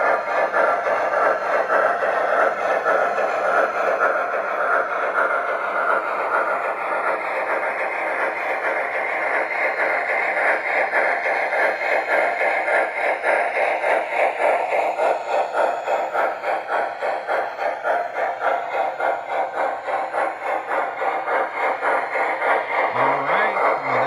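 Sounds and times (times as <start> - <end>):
model train steam chuffing: 0.0 - 24.0.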